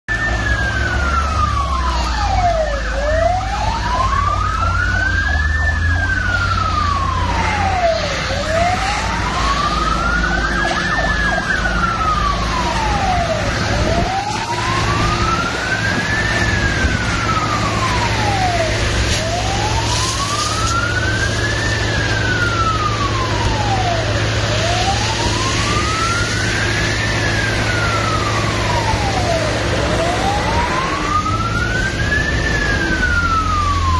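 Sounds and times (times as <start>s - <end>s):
fire engine siren wailing: 0.1s - 33.9s.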